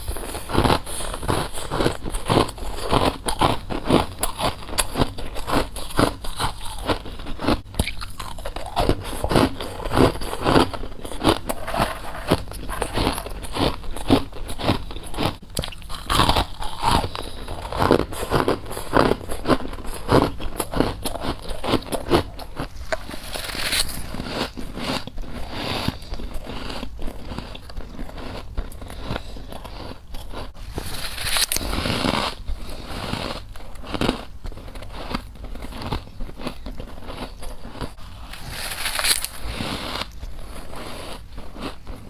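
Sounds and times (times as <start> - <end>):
person chewing crunchy frost: 0.0 - 42.0.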